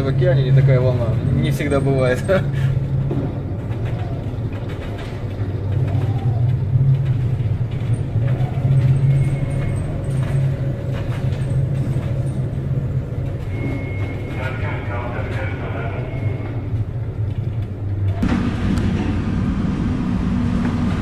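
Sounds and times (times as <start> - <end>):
ship engine low hum: 0.0 - 21.0.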